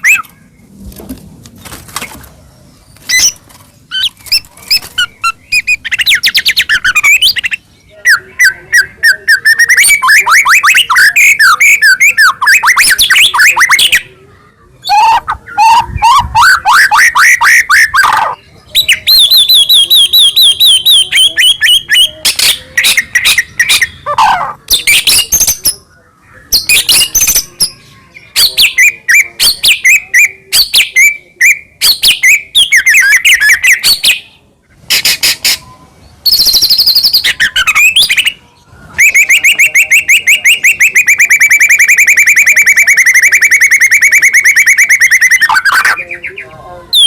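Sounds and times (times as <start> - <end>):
songbird singing whistles and trills: 3.0 - 14.1, 14.8 - 34.4, 35.0 - 47.0.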